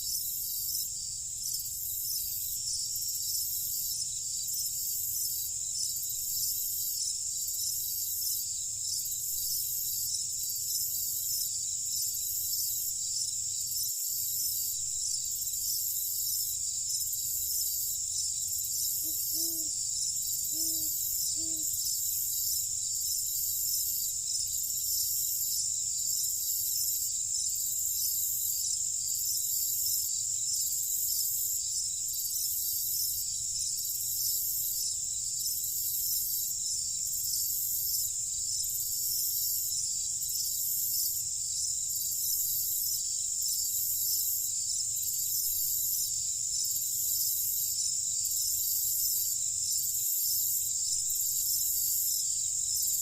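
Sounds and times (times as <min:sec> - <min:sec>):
crickets and insects chirping: 0:00.0 - 0:53.0.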